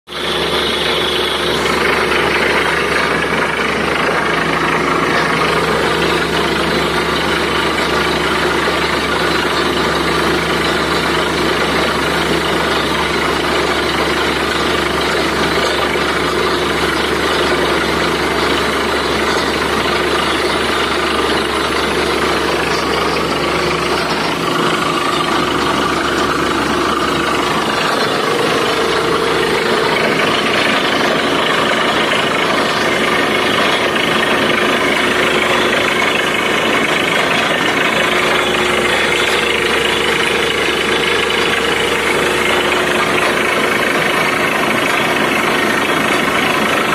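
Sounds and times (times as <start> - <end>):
drilling rig engine running: 0.1 - 46.9.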